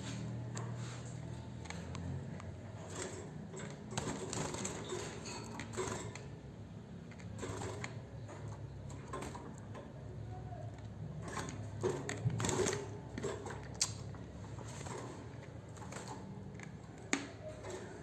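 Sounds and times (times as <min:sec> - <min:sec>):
birds rattling wire cages: 0:00.0 - 0:18.0.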